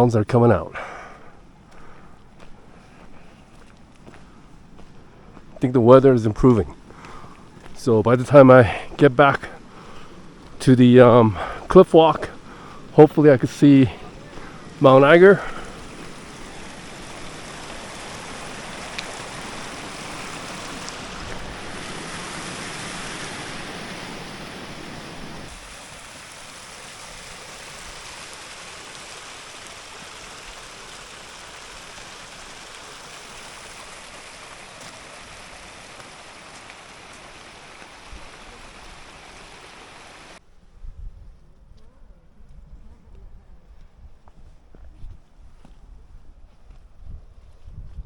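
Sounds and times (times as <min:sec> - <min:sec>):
mountain stream rushing: 0:00.0 - 0:40.4.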